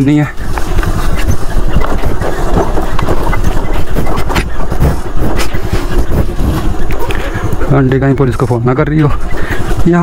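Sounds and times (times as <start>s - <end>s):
scooter engine rumble: 0.0s - 10.0s.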